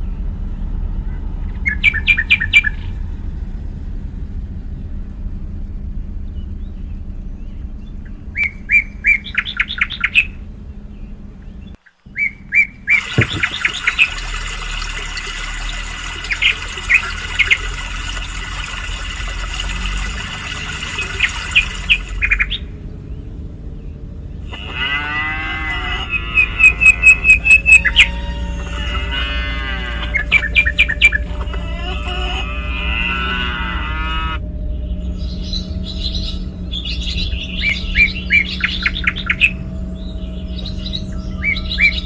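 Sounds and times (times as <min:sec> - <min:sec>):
songbirds chirping: 0:00.0 - 0:42.0
steady low rumble: 0:00.0 - 0:42.0.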